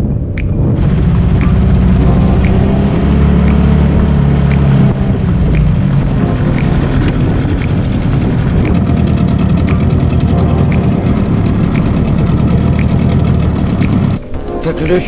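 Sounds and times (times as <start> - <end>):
outboard motor deep hum: 0.0 - 14.2
light ticking: 0.4 - 14.2.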